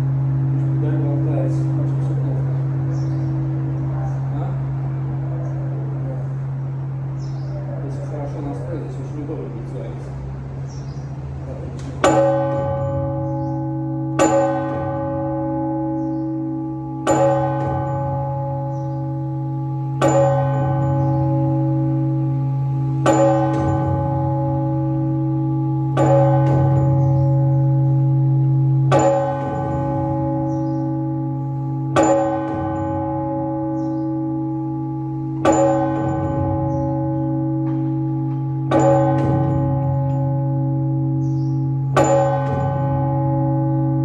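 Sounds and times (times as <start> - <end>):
large church bell strokes: 0.0 - 44.0.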